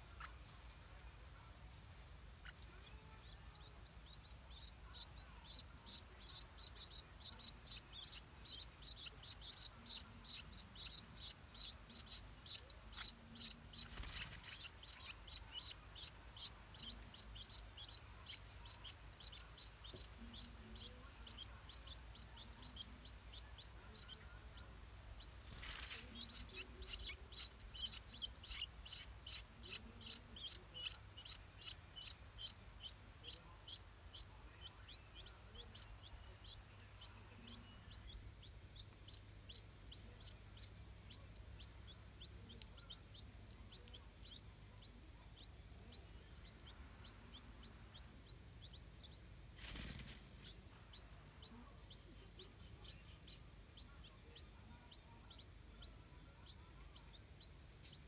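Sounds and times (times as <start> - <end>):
nestlings begging chirps: 1.9 - 58.0.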